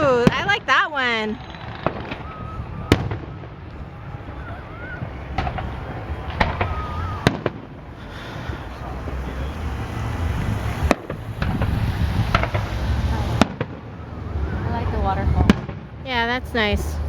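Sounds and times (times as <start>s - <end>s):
fireworks shells bursting: 0.0s - 14.0s
low continuous rumble: 0.0s - 17.0s.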